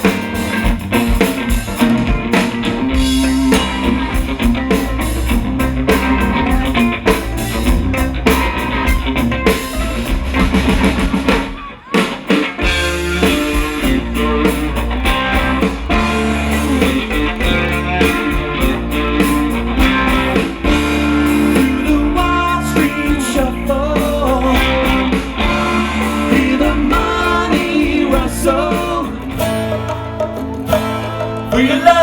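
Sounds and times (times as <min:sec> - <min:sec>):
bass guitar: 0:00.0 - 0:32.0
drums: 0:00.0 - 0:32.0
electric guitars: 0:00.0 - 0:32.0.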